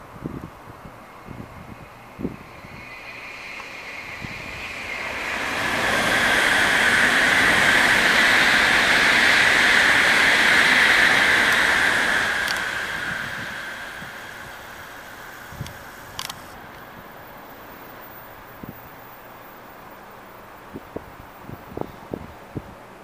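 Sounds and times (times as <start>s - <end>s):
high-speed train rushing past: 0.0s - 23.0s.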